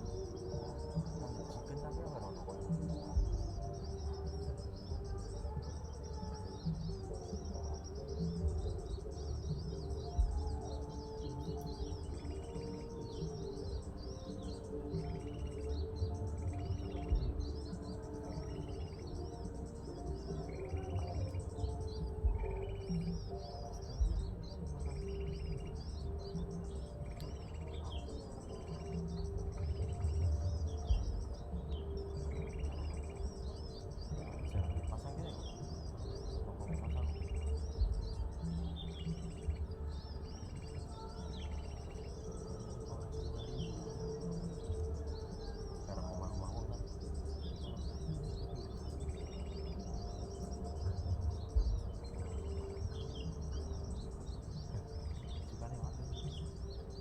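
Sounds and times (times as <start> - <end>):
buzzy bird trills: 0.0 - 57.0
small birds chirping: 0.0 - 57.0.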